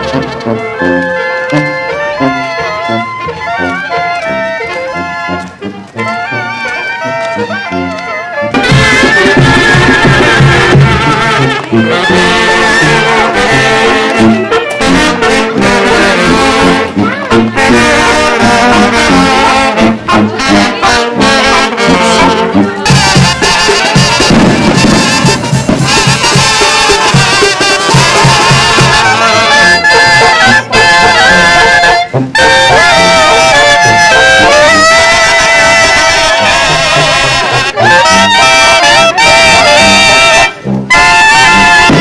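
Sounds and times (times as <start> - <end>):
trumpets and trombones playing: 0.0 - 42.0.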